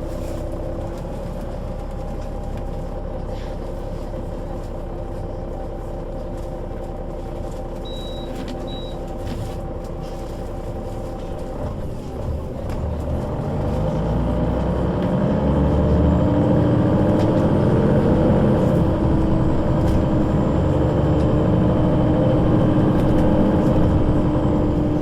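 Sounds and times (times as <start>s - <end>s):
bus engine accelerating: 0.0s - 25.0s.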